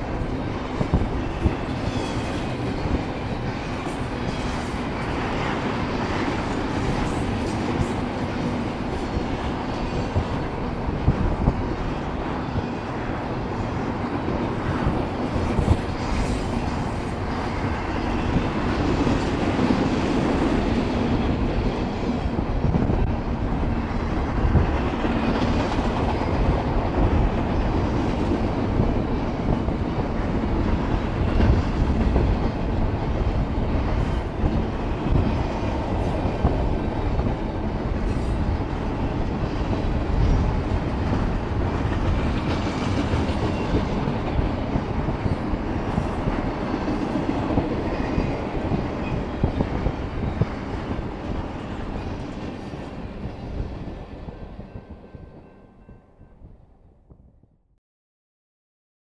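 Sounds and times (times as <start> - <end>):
freight train wheels on rails: 0.0 - 56.4.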